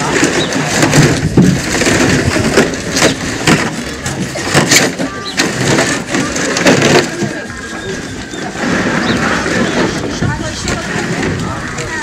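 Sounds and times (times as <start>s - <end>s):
plastic jugs clattering: 0.0s - 12.0s.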